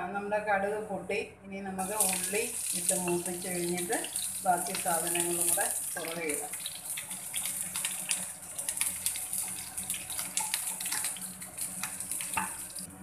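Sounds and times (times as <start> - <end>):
shallots sizzling in oil: 1.8 - 12.9.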